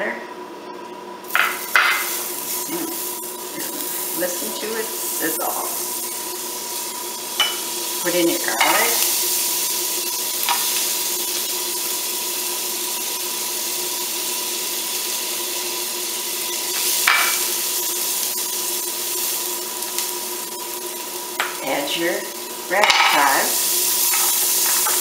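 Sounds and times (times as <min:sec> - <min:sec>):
butter sizzling in frying pan: 0:01.2 - 0:25.0.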